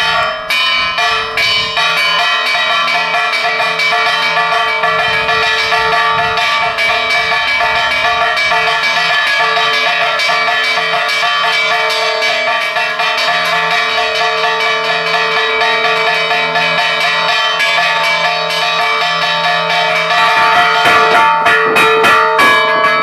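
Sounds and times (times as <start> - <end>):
church bells pealing: 0.0 - 23.0.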